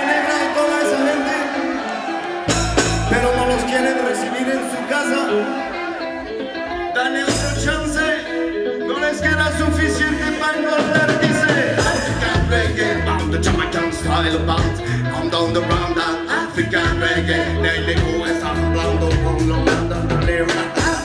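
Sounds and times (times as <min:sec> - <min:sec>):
live salsa band playing: 0:00.0 - 0:21.0
person singing: 0:00.0 - 0:21.0.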